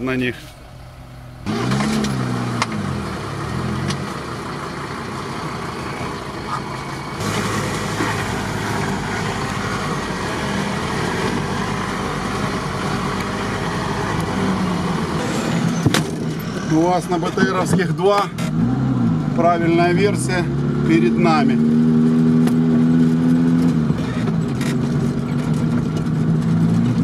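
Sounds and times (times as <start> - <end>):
off-road vehicle engine running: 0.0 - 27.0
rush of wind and driving noise: 1.4 - 27.0.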